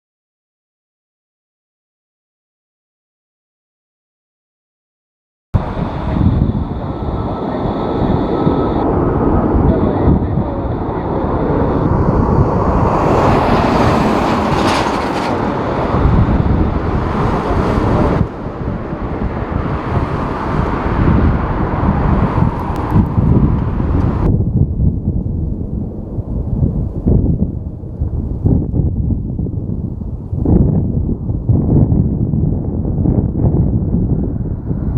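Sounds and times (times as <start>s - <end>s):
jet engine noise: 5.6s - 34.9s
wind rumbling on microphone: 5.6s - 34.9s.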